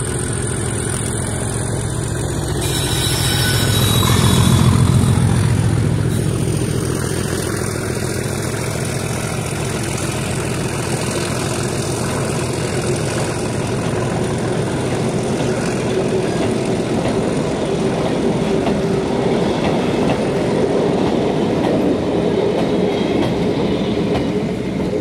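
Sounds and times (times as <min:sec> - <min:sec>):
freight train wheels rumbling on rail: 0:00.0 - 0:25.0.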